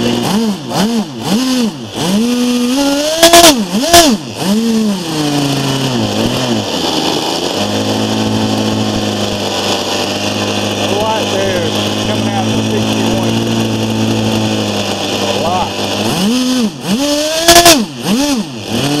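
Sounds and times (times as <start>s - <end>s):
model engine idling: 0.0s - 19.0s
model engine revving: 0.0s - 19.0s.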